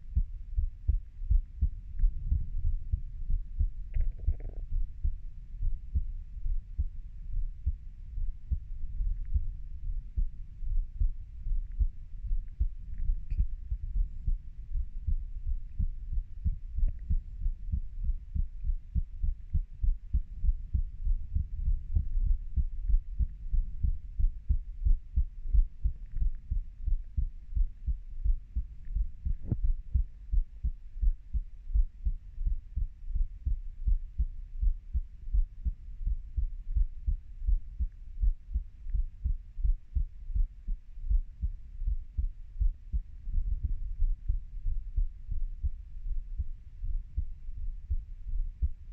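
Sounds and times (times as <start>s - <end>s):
heartbeat: 0.0s - 48.9s.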